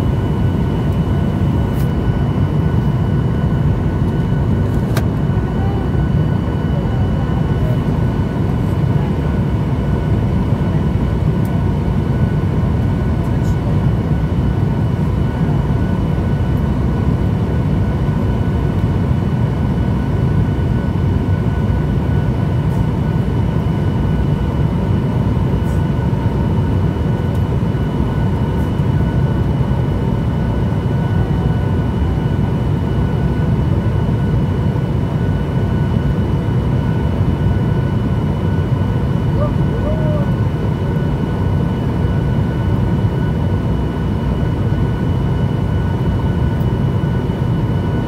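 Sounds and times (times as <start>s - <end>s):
jet engines and airflow rumble: 0.0s - 48.0s.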